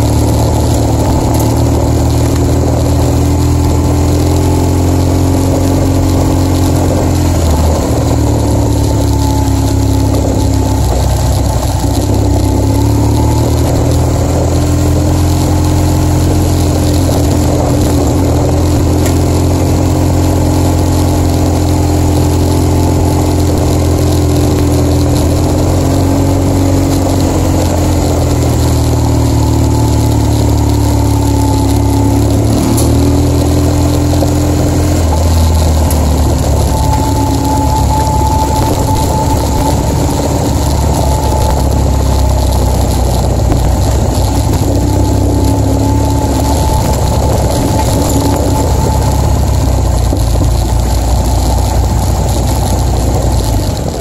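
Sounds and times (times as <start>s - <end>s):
motorcycle engine running: 0.0s - 54.0s
steady higher whine: 0.0s - 54.0s
wind and road noise: 0.0s - 54.0s.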